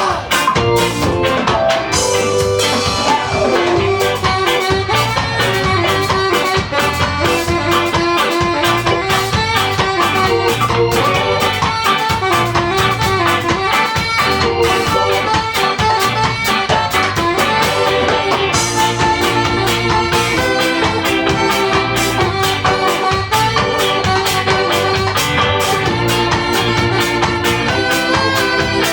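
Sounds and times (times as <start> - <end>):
live ska band playing: 0.0 - 28.9.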